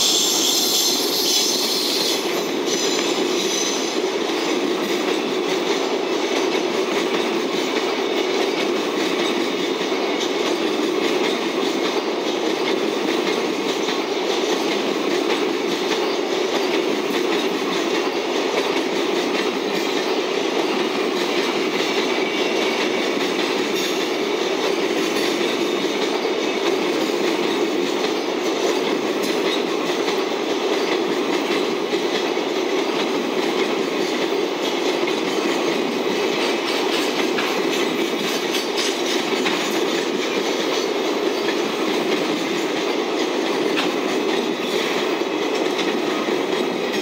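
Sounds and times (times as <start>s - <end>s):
freight train rolling past: 0.0s - 47.0s.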